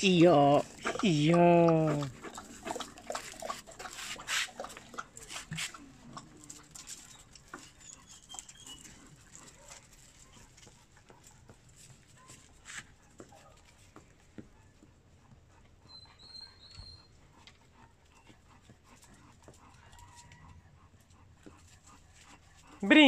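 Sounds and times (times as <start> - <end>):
paws clicking on paving: 0.1 - 23.0.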